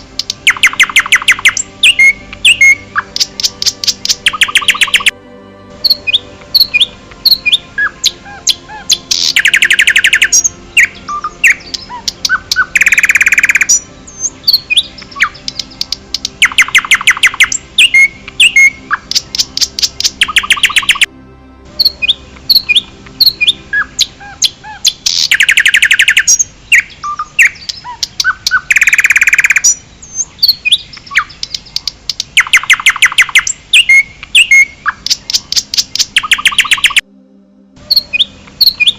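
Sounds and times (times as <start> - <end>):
songbirds chirping: 0.0 - 37.0, 37.8 - 38.9
loud fast bird trills: 0.4 - 5.1, 5.8 - 21.1, 21.8 - 31.8, 32.4 - 37.0.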